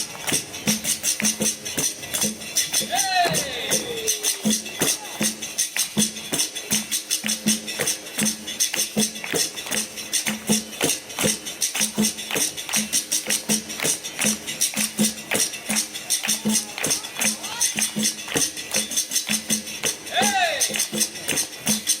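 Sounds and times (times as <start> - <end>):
tambourine jingles and strikes: 0.0 - 22.0.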